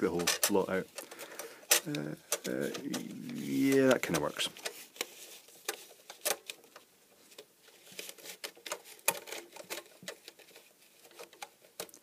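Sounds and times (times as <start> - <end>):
faint rustling: 0.0 - 12.0.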